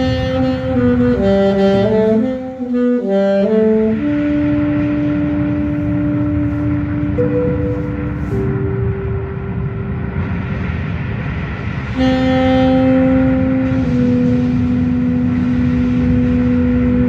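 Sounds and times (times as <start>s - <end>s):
alto saxophone: 0.0s - 9.8s, 11.9s - 17.0s
recorded backing track: 0.0s - 17.0s.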